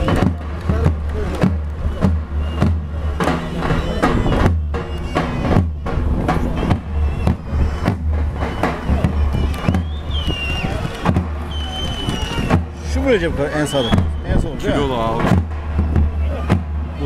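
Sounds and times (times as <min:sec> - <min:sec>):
bass drum beats: 0:00.0 - 0:17.0.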